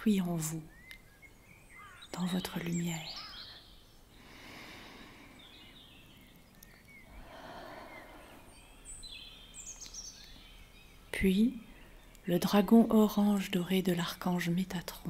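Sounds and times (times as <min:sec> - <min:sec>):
small birds chirping: 0:00.0 - 0:15.0
soft background hiss: 0:00.0 - 0:15.0.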